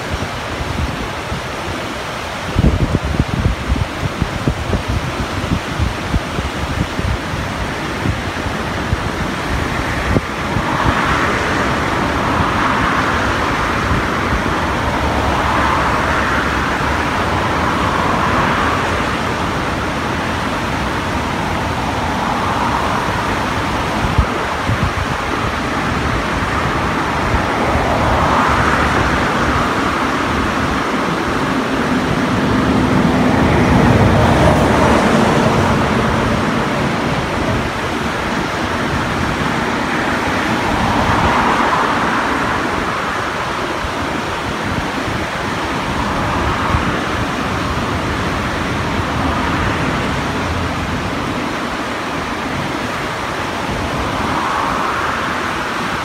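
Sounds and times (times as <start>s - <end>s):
river rushing: 0.0s - 56.0s
vehicles passing: 0.0s - 56.0s
low engine hum: 2.6s - 56.0s.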